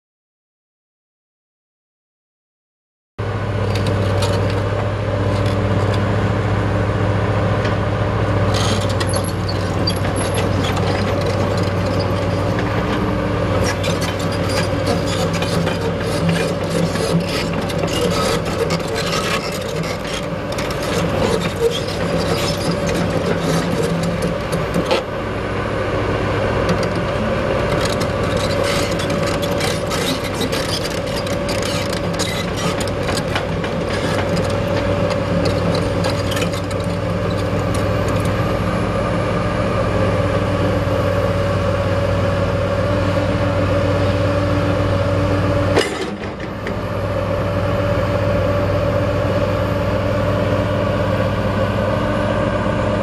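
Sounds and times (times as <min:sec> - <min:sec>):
diesel excavator engine running: 0:03.2 - 0:53.0.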